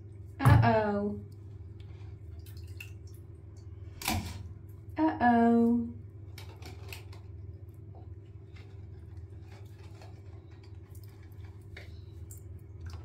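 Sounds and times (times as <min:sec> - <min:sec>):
bath water splashes and drips: 0:01.2 - 0:05.0, 0:06.1 - 0:13.0.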